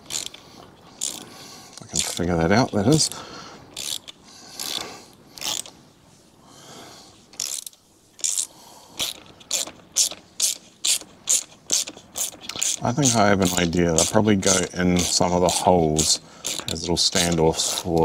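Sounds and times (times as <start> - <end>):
hand ratchet clicking: 0.0 - 3.1, 3.7 - 5.7, 7.4 - 18.0.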